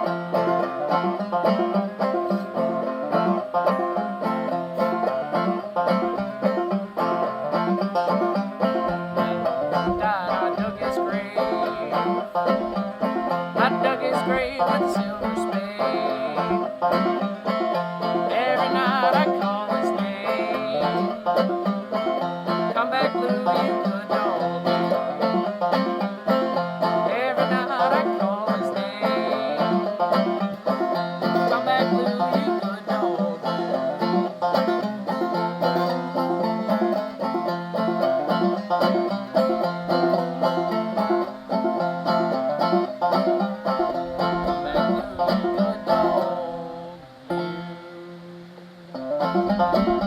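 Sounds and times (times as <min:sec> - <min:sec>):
banjo playing: 0:00.0 - 0:50.0.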